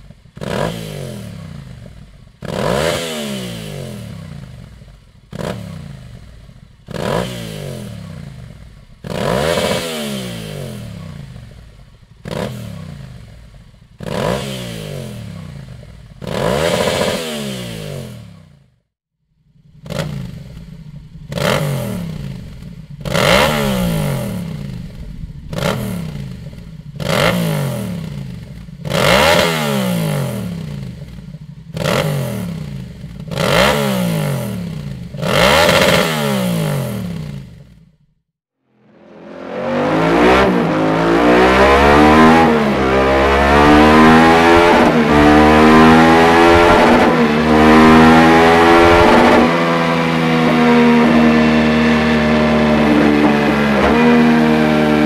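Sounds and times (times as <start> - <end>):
motorcycle engine throttle blips: 0.0 - 18.8, 19.4 - 38.2, 38.8 - 55.0.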